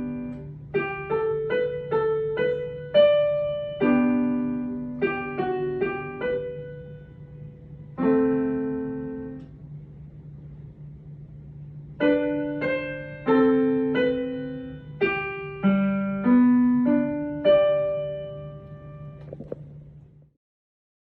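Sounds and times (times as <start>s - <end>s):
low steady hum: 0.0s - 20.3s
solo piano: 0.0s - 20.3s.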